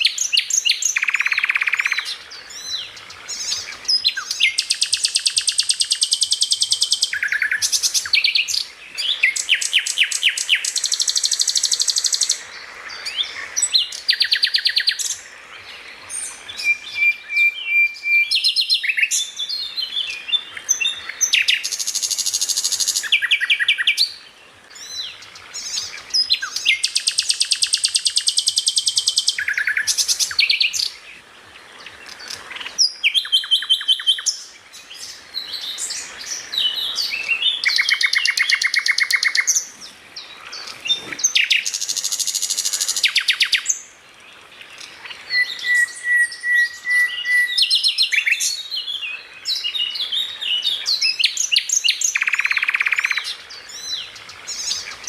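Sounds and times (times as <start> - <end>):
songbird trilling: 0.0 - 15.3, 16.0 - 24.2, 24.8 - 31.0, 32.0 - 43.9, 44.8 - 55.0.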